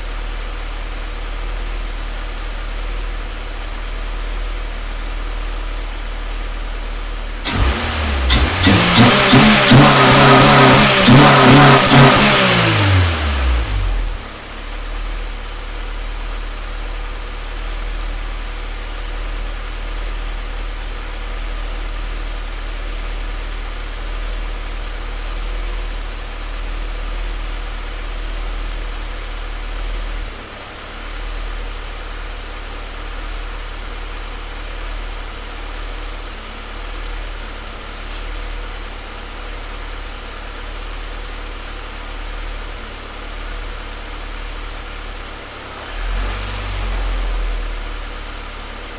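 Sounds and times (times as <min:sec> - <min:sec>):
car engine idling rough: 0:00.0 - 0:48.9.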